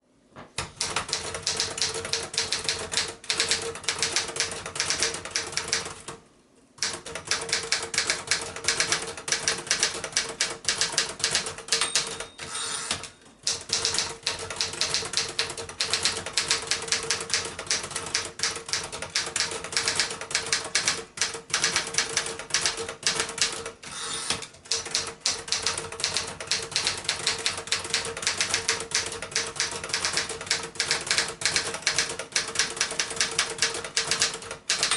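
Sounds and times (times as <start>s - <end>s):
typewriter typing fast: 0.7s - 6.2s, 6.8s - 34.9s.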